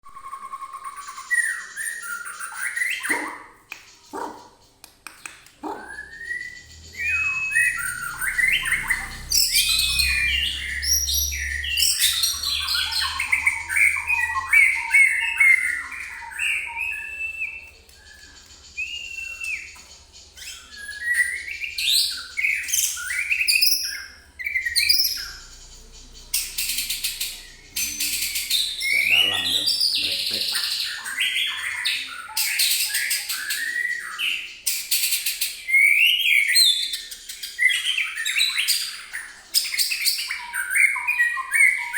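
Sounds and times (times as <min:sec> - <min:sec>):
songbird whistling and chirping: 0:00.0 - 0:41.9.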